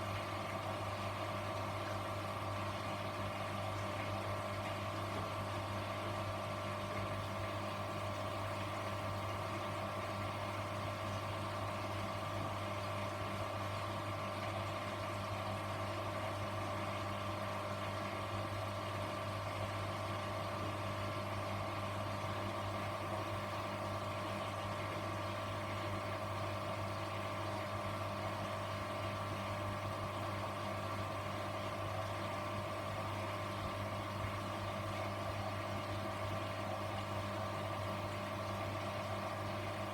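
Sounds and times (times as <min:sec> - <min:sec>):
washing machine hum and whine: 0:00.0 - 0:39.9.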